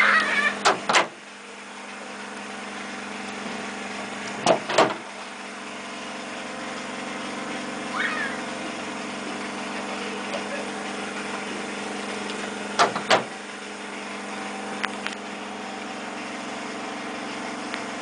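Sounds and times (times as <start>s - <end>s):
idling engine hum: 0.0s - 18.0s.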